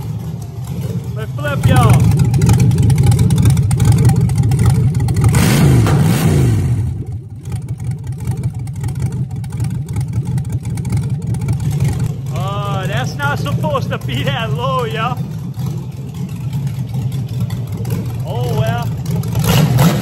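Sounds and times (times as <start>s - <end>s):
engine revving and idling: 0.0s - 20.0s.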